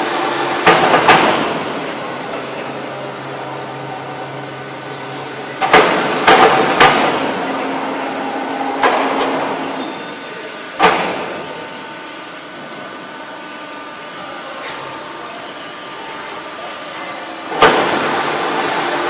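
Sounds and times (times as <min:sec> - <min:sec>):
press brake machine hum: 0:00.0 - 0:19.0.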